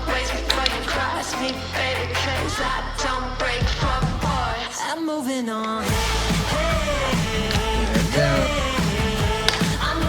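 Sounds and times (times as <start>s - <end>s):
rock song with singing: 0.0s - 10.0s.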